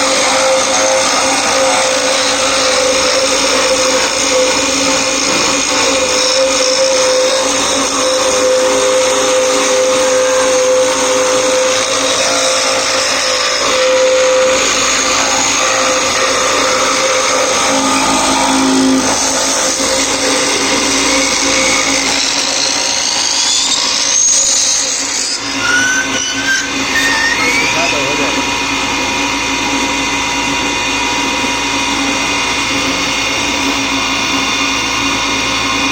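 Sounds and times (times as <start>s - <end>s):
milling machine motor whine: 0.0s - 35.9s.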